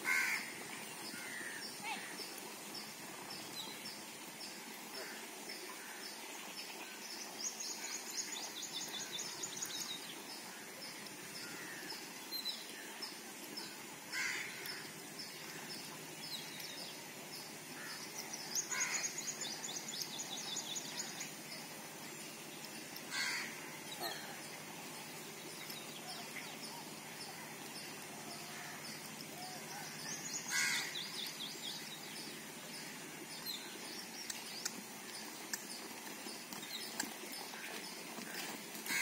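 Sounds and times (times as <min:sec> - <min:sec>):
faint outdoor background: 0:00.0 - 0:39.0.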